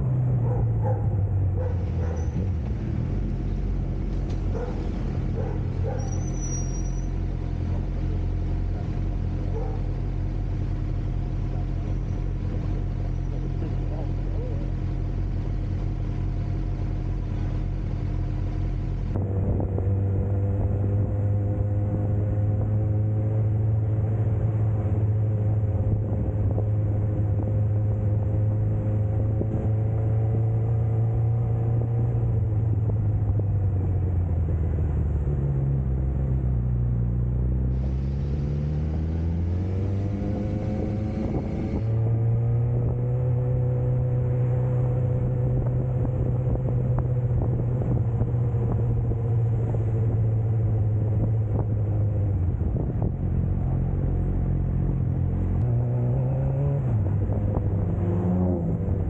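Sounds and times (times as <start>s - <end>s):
motorcycle engine: 0.0s - 35.4s, 36.1s - 51.8s.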